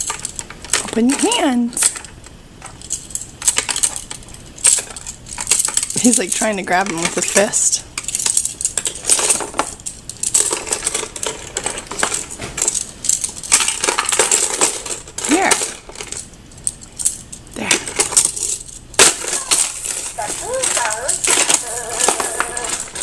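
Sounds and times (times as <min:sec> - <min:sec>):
plastic baby toys rattling: 0:00.0 - 0:23.0.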